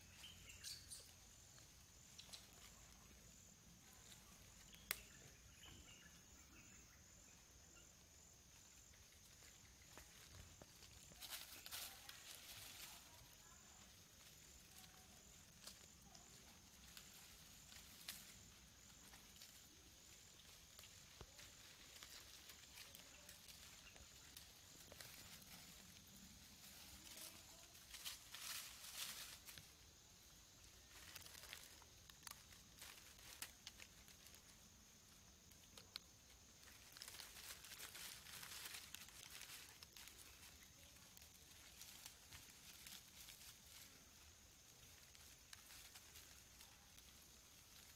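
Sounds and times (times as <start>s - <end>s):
dry leaves rustling: 0.0s - 6.7s, 7.8s - 47.9s
soft clicks and crackles: 2.0s - 5.8s, 8.8s - 29.8s, 30.6s - 47.9s.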